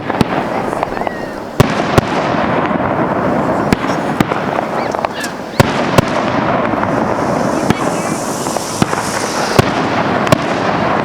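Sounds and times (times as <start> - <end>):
firework crackle: 0.0 - 11.0
firework shells bursting: 0.0 - 11.0.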